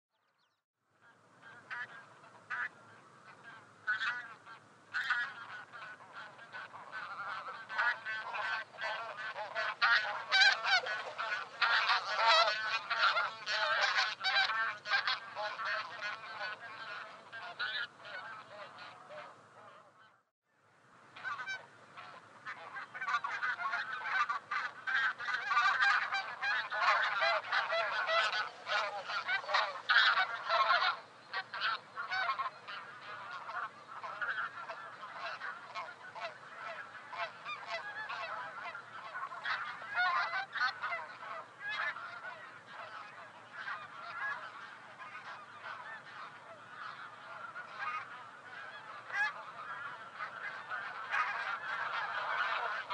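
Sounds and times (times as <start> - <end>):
geese honking: 1.0 - 20.2, 21.2 - 52.9.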